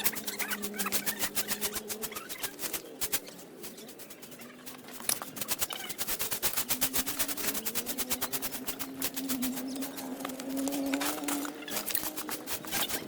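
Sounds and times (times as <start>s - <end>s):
rapid scrubbing strokes: 0.0s - 13.0s.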